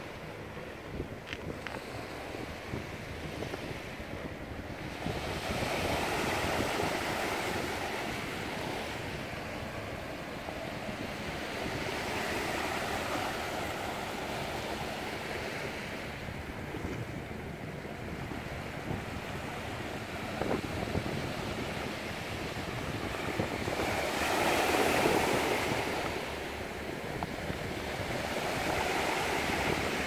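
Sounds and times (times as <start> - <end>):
small waves washing on shore: 0.0 - 30.0
wind on microphone: 0.0 - 30.0.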